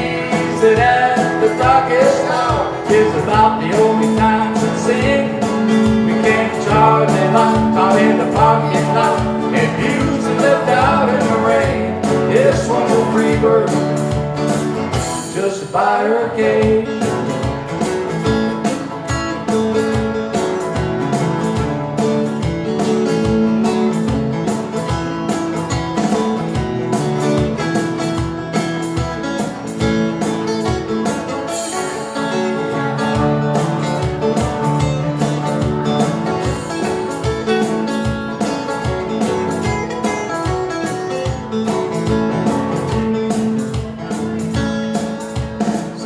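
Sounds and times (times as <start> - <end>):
country band playing: 0.0 - 46.0
strummed acoustic guitar: 0.0 - 46.0.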